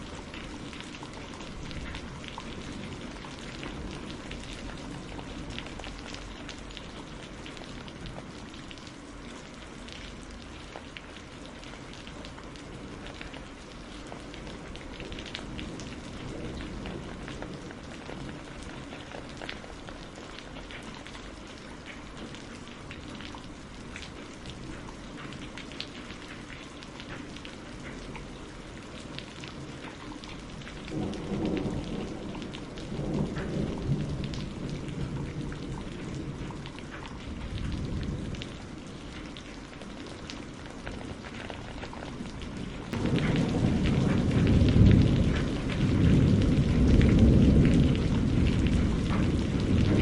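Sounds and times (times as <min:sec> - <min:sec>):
rain ticking on a hard surface: 0:00.0 - 0:50.0.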